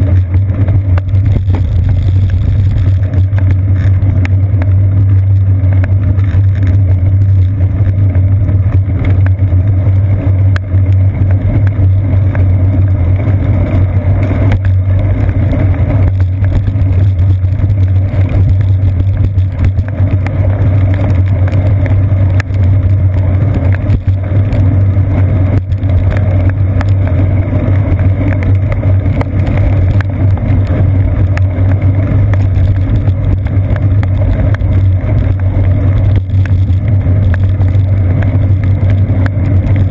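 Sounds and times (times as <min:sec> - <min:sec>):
low road vibration rumble: 0:00.0 - 0:39.9
wet tyre noise: 0:00.0 - 0:39.9.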